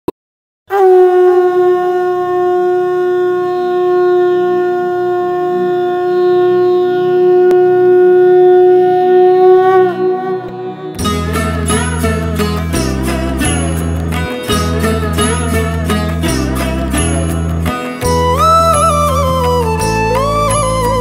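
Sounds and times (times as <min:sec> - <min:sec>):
conch shell blast: 0:00.7 - 0:21.0.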